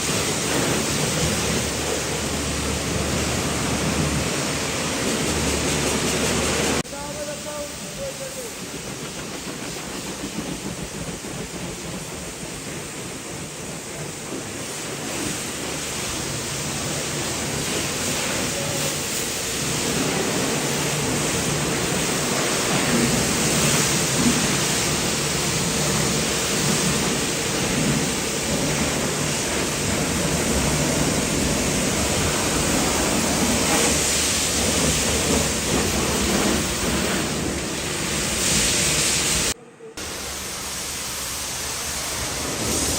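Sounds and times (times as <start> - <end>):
pressure washer spraying: 0.0 - 42.9.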